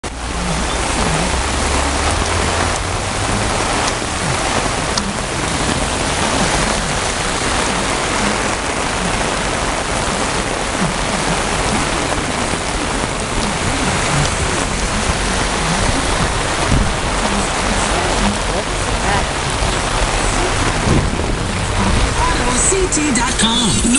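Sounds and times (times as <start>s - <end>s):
floodwater rushing: 0.0s - 23.9s
heavy rain pouring: 0.0s - 23.9s.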